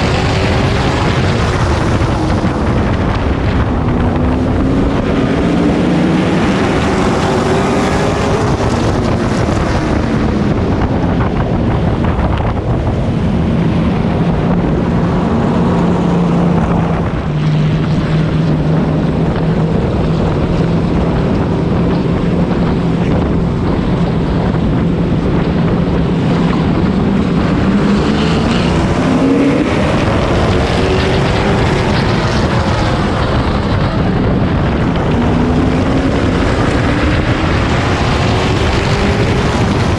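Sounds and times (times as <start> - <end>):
race truck engine: 0.0 - 39.9
wind buffeting microphone: 0.0 - 39.9.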